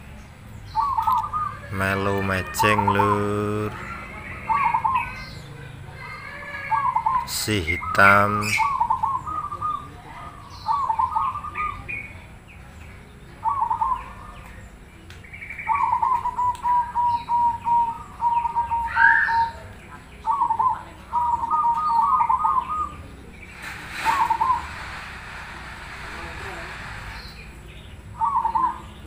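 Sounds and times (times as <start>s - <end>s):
dove cooing: 0.8s - 12.0s, 13.4s - 14.4s, 15.6s - 26.0s, 28.2s - 29.0s.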